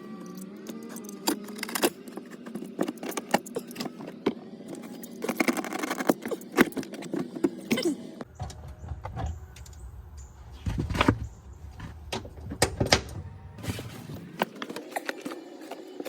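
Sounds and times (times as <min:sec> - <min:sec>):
hand tools and metal parts clicking: 0:00.0 - 0:13.2.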